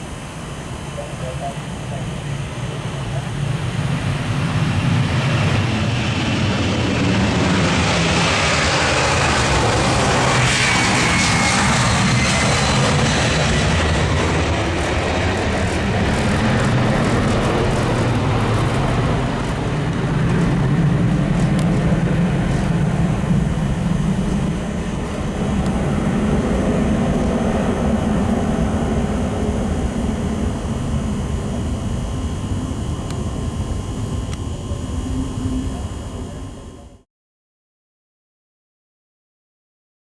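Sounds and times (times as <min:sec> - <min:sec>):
jet engines running: 0:00.0 - 0:37.0.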